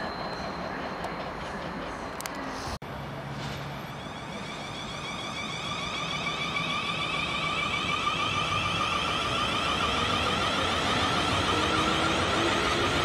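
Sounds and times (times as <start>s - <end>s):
high-pitched train whine: 0.0s - 13.0s.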